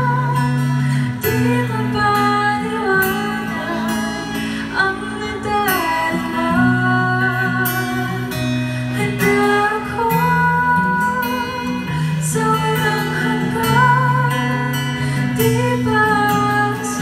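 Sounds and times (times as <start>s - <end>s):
person singing: 0.0s - 17.0s
strummed acoustic guitar: 0.0s - 17.0s.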